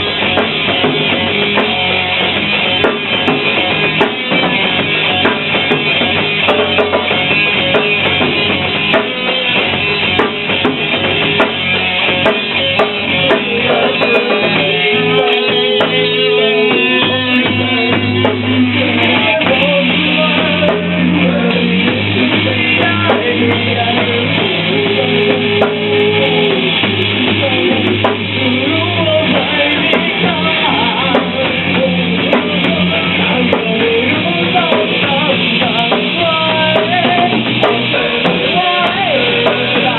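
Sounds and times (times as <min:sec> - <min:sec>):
bass line: 0:00.0 - 0:39.9
drum kit: 0:00.0 - 0:39.9
guitar: 0:00.0 - 0:39.9.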